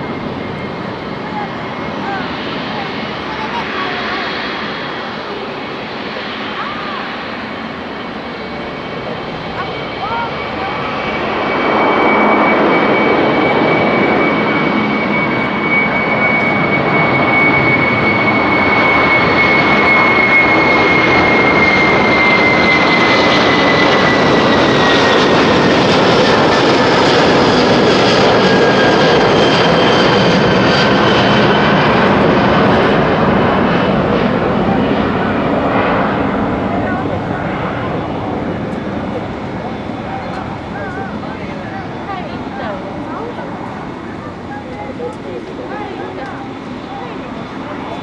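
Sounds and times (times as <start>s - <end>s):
high engine whine: 0.0s - 48.0s
jet engine roar: 0.0s - 48.0s.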